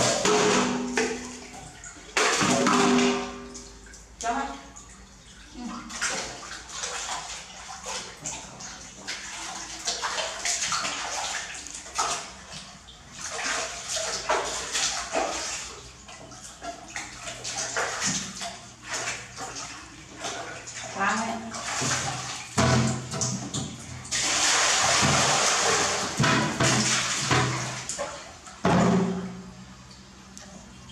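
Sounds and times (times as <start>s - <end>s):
water sloshing in plastic bucket: 0.0s - 29.6s.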